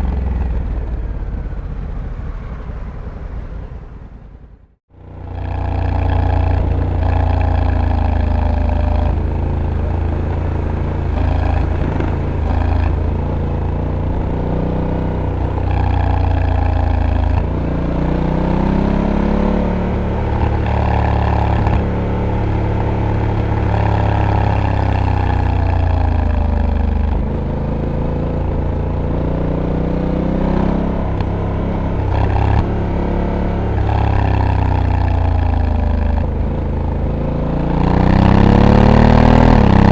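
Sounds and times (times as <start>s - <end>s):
motorcycle engine revving: 0.0s - 3.4s, 4.9s - 39.9s
gear changes: 5.1s - 39.9s.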